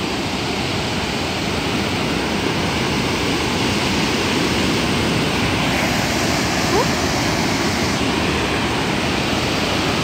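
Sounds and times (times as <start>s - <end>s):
white water rushing: 0.0s - 10.0s.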